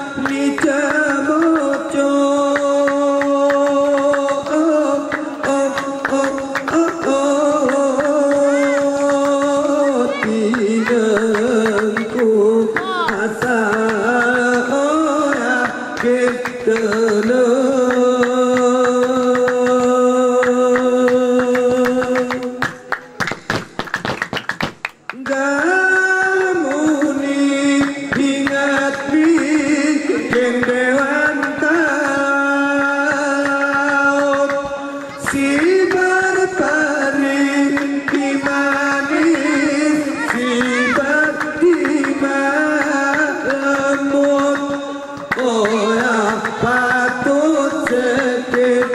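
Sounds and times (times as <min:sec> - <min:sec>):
men singing long notes: 0:00.0 - 0:22.7, 0:25.1 - 0:48.9
hand-claps: 0:00.0 - 0:48.9.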